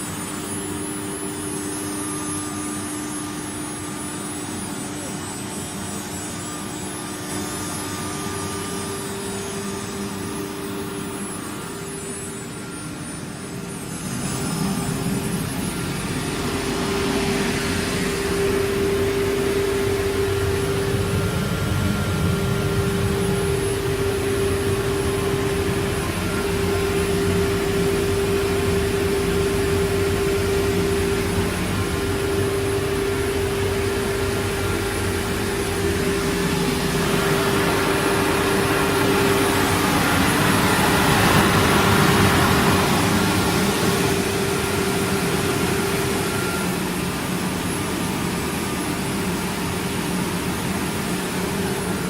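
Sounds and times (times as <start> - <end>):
router spindle whining: 0.1 - 47.7.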